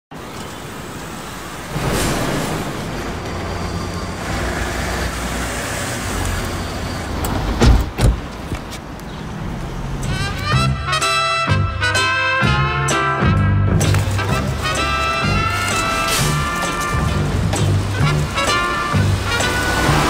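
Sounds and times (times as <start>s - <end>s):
car engines and tyres rumbling: 0.1s - 11.0s, 13.7s - 20.0s.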